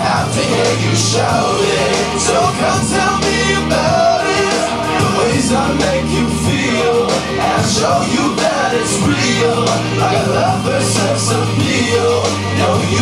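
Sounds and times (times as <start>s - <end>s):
live rock band playing: 0.0s - 13.0s
low bass notes: 0.0s - 13.0s.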